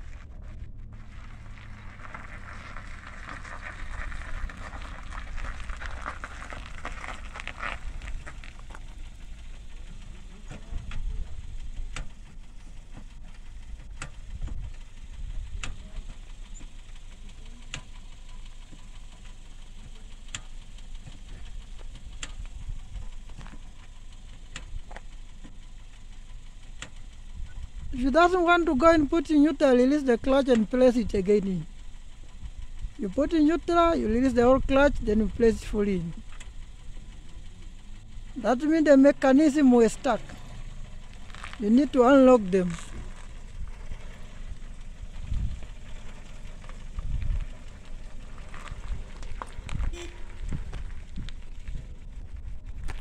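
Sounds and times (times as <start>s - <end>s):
car engine running slowly: 0.0s - 53.0s
sharp ticks: 2.1s - 29.6s, 30.2s - 52.0s.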